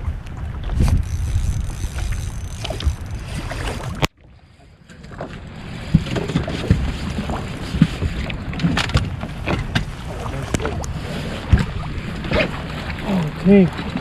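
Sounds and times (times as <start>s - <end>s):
boat low rumble: 0.0s - 14.0s
water noise: 0.0s - 14.0s
wind: 0.0s - 14.0s.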